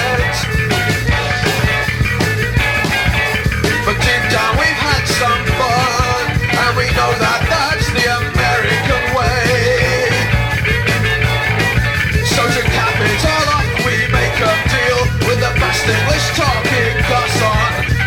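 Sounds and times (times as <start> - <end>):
bass and drums: 0.0 - 18.0
gliding lead guitar line: 0.0 - 18.0.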